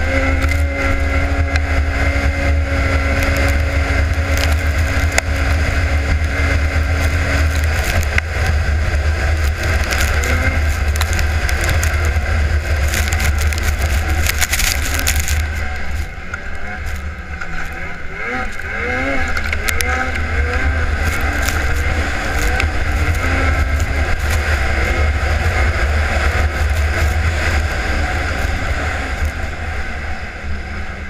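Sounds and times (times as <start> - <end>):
snowmobile engine running: 0.0 - 31.0
wind rumble on microphone: 0.0 - 31.0.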